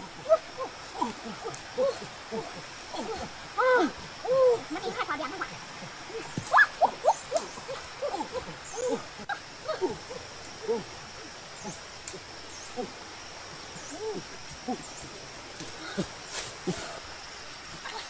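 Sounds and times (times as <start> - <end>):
faint high hiss: 0.0 - 18.0.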